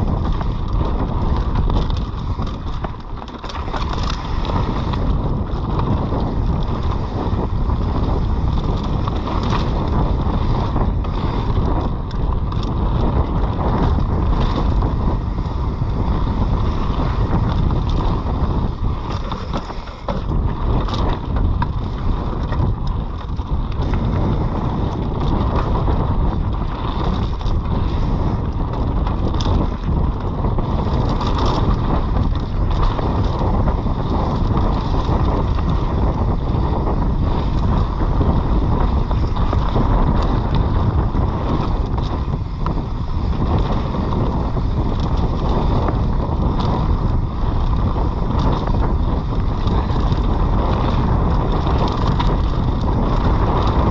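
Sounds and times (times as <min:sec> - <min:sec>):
bike rattling over rough ground: 0:00.0 - 0:53.9
wind on microphone: 0:00.0 - 0:53.9.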